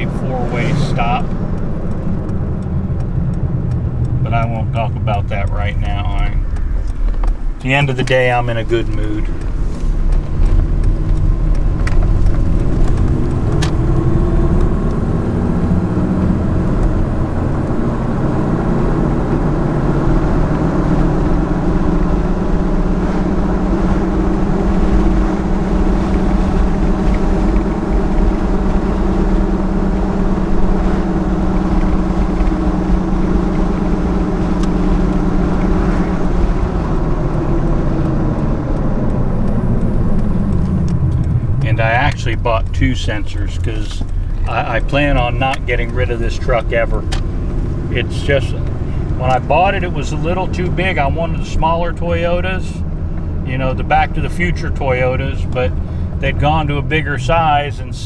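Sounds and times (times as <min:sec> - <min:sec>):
car engine humming: 0:00.0 - 0:58.0
road noise: 0:00.0 - 0:58.0.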